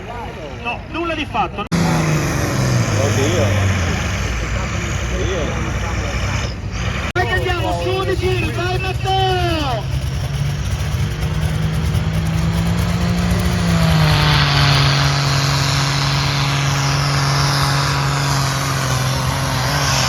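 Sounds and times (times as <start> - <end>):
tractor engine at high revs: 1.6 - 20.0.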